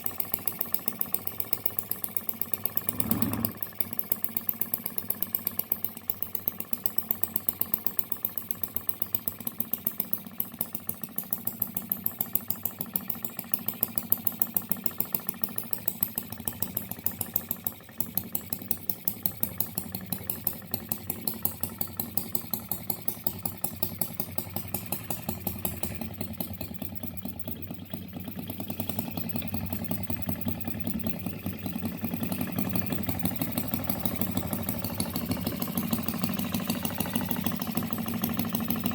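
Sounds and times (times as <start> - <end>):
single-cylinder model engine running: 0.0 - 38.9.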